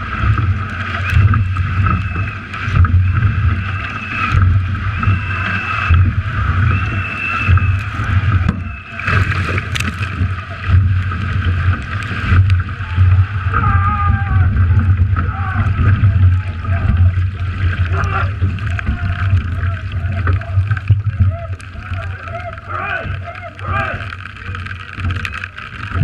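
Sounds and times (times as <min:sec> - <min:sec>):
low pulsing buffeting: 0:00.0 - 0:24.0
water rushing and splashing on hull: 0:00.0 - 0:26.0.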